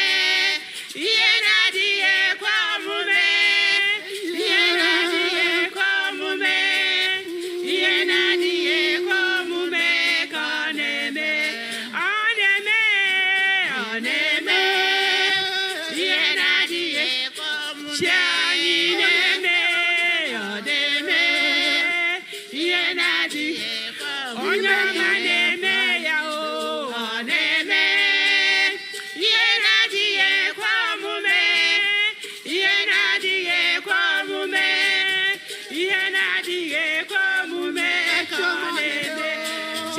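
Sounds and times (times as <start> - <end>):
voices singing: 0.0 - 39.9.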